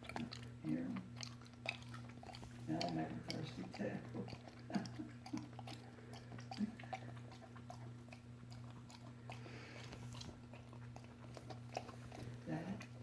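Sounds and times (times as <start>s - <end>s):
dog chewing and smacking: 0.0s - 13.0s.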